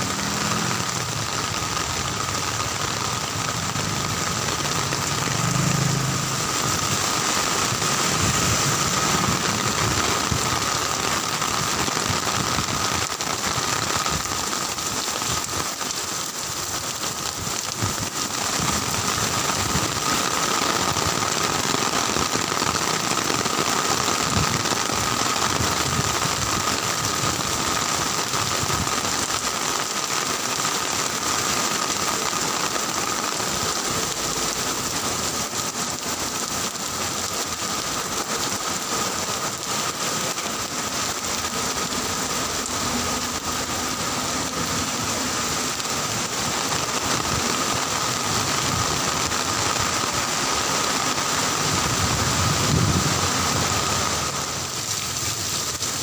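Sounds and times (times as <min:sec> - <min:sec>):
heavy rain on street: 0:00.0 - 0:56.0.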